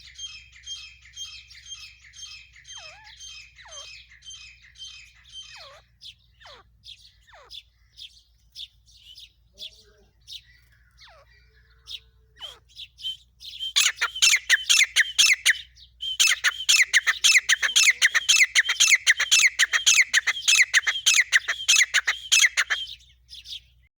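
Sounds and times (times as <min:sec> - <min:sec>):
francolin chirping calls: 0:00.0 - 0:08.2, 0:08.9 - 0:23.7.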